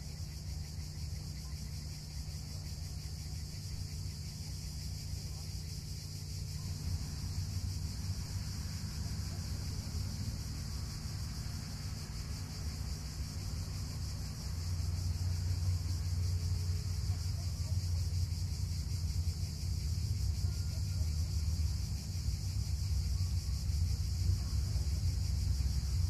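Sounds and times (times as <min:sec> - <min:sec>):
constant high hiss: 0:00.0 - 0:26.0
low steady rumble: 0:00.0 - 0:26.0.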